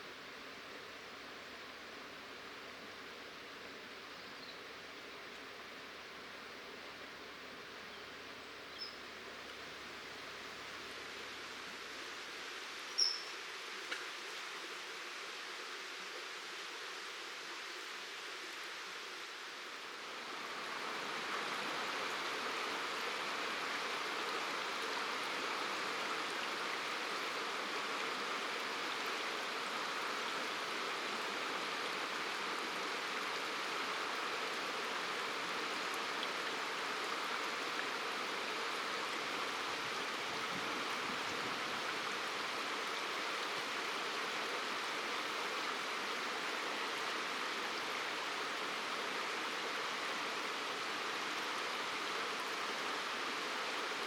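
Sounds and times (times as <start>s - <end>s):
river water rushing: 4.7s - 54.0s.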